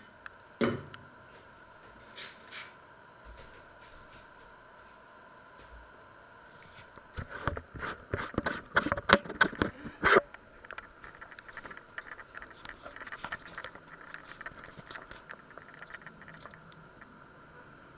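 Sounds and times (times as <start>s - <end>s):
faint steady whine: 0.0s - 17.9s.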